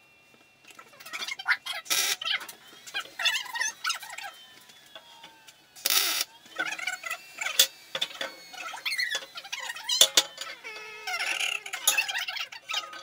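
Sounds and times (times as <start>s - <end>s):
metal scraping squeaks: 0.7s - 13.0s.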